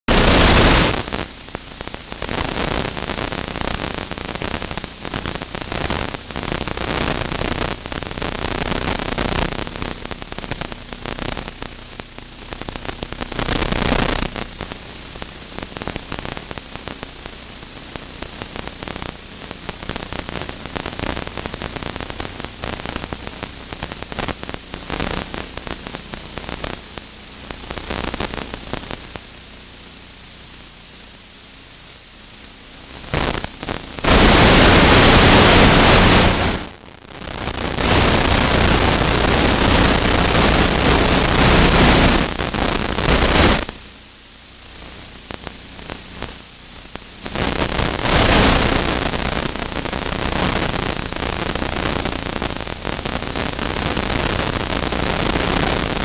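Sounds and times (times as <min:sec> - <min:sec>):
steady hiss and low hum: 0:00.1 - 0:56.0.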